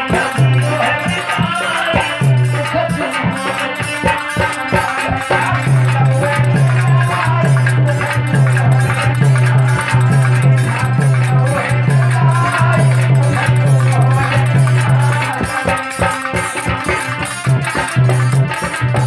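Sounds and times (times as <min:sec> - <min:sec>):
man singing through microphone: 0:00.0 - 0:19.0
rattling percussion beat: 0:00.0 - 0:19.0.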